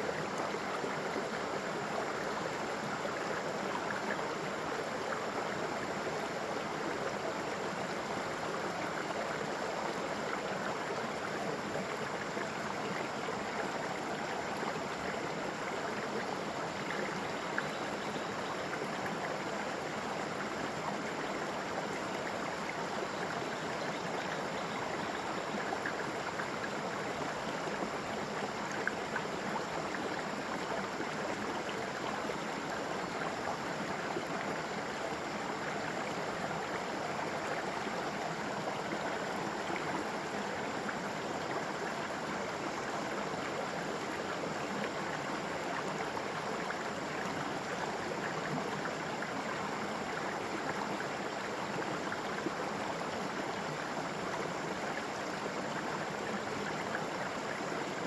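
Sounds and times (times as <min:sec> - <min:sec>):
waterfall flowing and splashing: 0:00.0 - 0:58.0.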